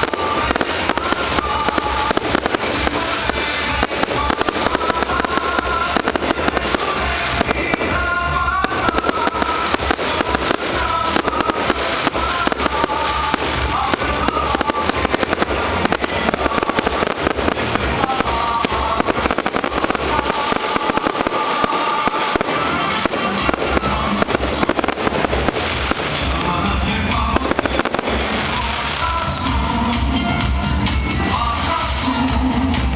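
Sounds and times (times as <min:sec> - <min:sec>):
fireworks bangs and crackles: 0:00.0 - 0:32.9
music playing: 0:00.0 - 0:32.9.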